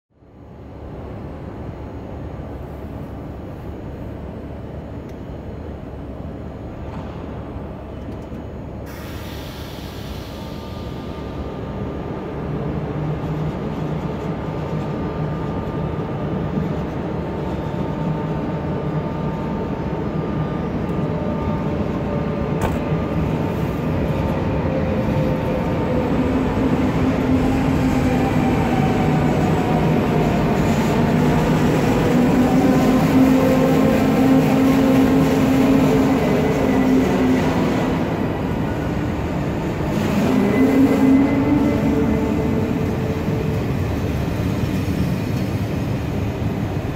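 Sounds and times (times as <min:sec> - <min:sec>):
electric train droning past: 0:08.6 - 0:46.9.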